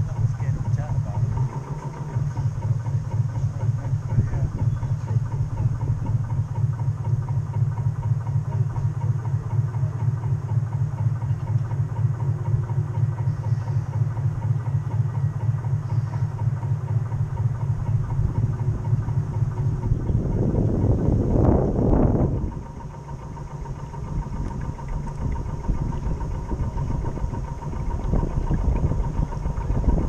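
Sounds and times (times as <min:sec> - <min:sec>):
model boat drive throbbing: 0:00.0 - 0:30.0.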